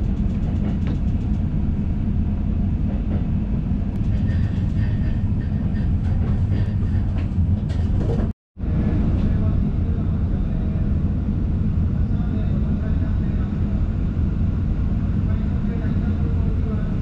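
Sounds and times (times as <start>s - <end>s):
train rumble from inside: 0.0s - 17.0s.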